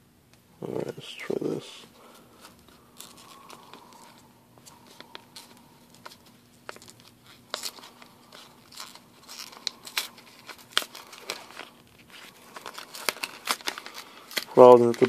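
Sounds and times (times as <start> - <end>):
card pack wrapping tearing: 2.1 - 15.0.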